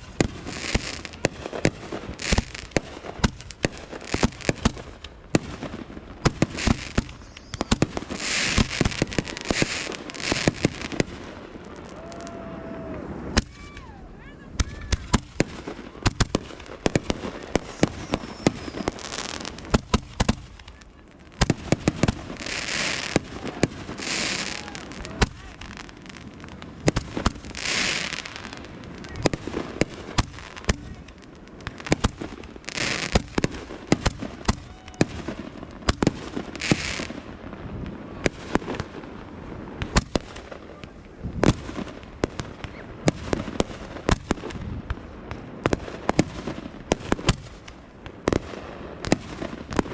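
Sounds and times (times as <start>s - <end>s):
fireworks bangs and pops: 0.0s - 49.9s
fireworks hissing and crackling: 0.0s - 49.9s.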